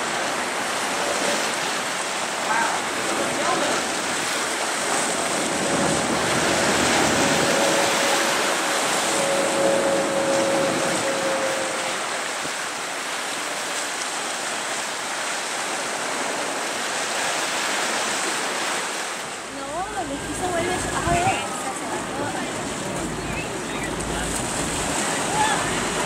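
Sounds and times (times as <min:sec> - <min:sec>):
choppy sea rushing: 0:00.0 - 0:26.0
wind: 0:00.0 - 0:26.0.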